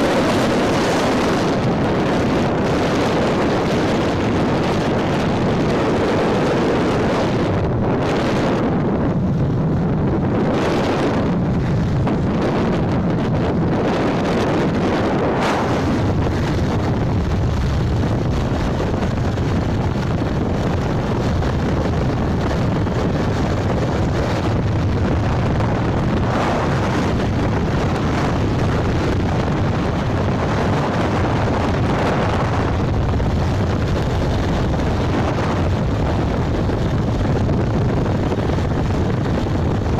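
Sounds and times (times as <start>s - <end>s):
motorbike road and engine noise: 0.0s - 39.9s
wind buffeting microphone: 0.0s - 39.9s.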